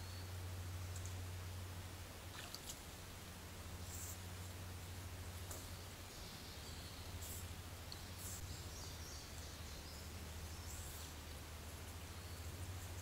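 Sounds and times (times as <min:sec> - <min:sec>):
faint hiss: 0:00.0 - 0:13.0
low electrical hum: 0:00.0 - 0:13.0.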